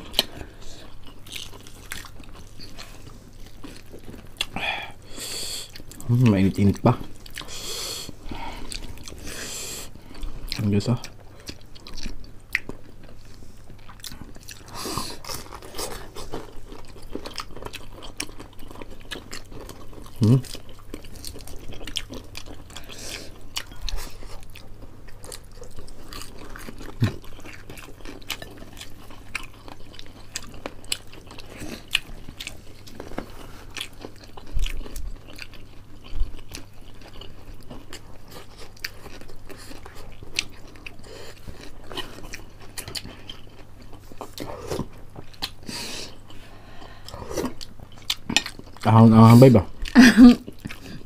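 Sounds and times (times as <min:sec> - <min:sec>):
chewing fried chicken: 0:00.0 - 0:51.0
steady low hum: 0:00.0 - 0:51.0.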